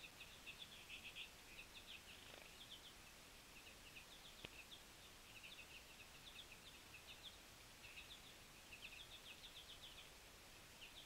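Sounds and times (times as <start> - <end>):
songbirds chipping and twittering: 0.0 - 11.0
steady hiss: 0.0 - 11.0.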